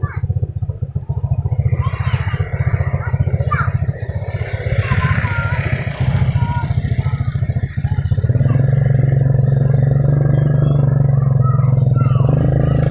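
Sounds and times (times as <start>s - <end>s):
engine running with fast pulse: 0.0s - 12.9s.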